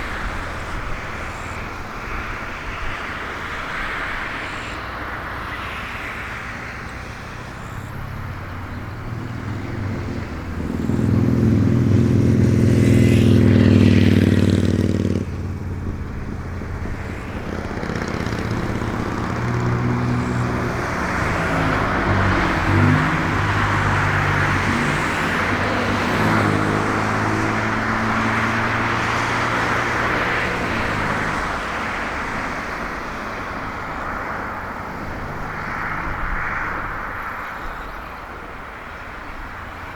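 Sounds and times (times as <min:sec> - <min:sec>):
electric locomotive hum: 0:00.0 - 0:39.9.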